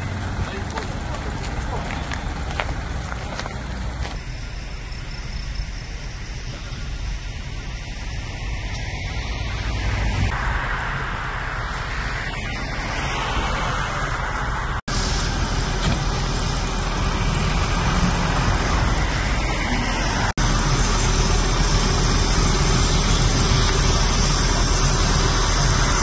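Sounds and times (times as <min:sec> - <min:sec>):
traffic and engine rumble: 0:00.0 - 0:26.0.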